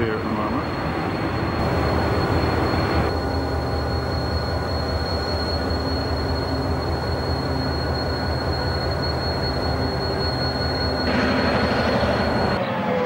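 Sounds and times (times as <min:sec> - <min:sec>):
diesel locomotive engines idling: 0:00.0 - 0:13.0
high-pitched whine: 0:00.0 - 0:13.0.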